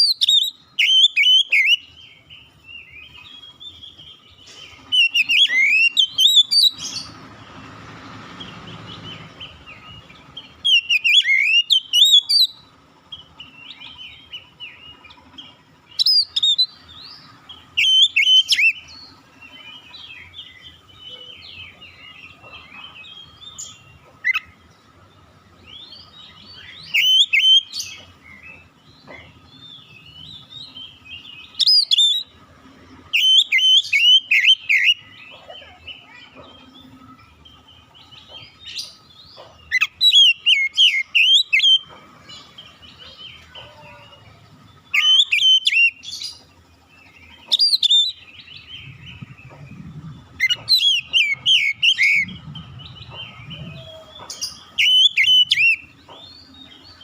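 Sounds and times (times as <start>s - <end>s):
bird singing whistled notes: 0.0s - 7.2s, 8.6s - 24.6s, 25.6s - 32.4s, 33.1s - 57.0s
bird twittering: 0.0s - 7.2s, 8.4s - 24.8s, 25.6s - 32.4s, 33.1s - 57.0s.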